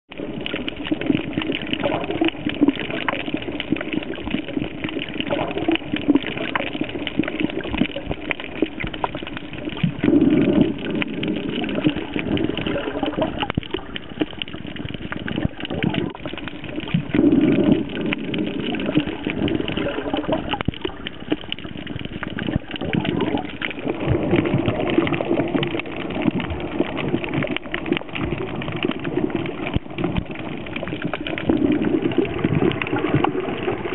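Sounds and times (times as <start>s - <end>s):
muffled water sloshing: 0.1s - 33.9s.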